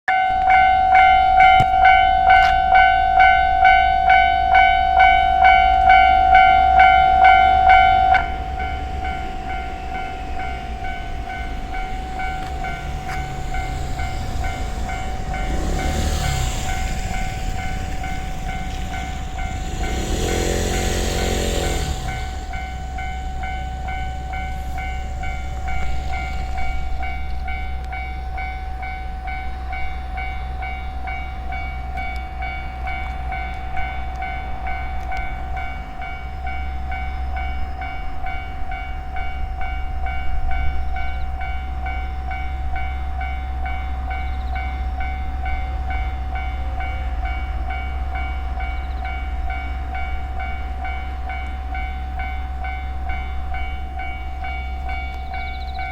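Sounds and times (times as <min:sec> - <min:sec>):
level crossing alarm ringing: 0:00.1 - 0:55.9
continuous low rumble: 0:00.3 - 0:55.9.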